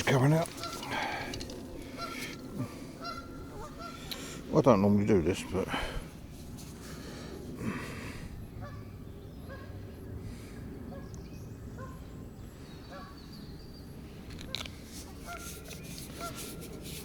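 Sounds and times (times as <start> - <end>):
distant birds calling: 0.0 - 17.0.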